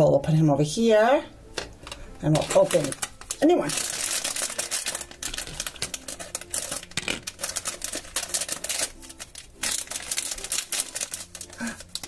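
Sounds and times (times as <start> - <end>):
plastic foil pouch crinkling: 1.8 - 12.0
plastic pouch torn open: 1.9 - 12.0.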